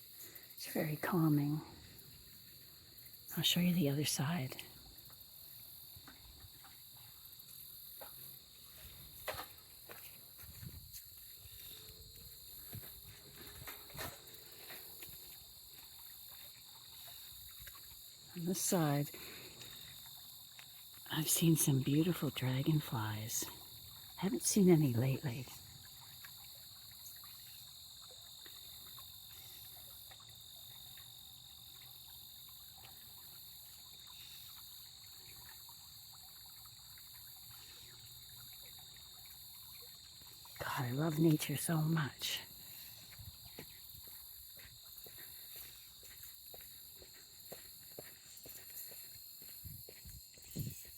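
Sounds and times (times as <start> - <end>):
crickets trilling: 0.0 - 50.9.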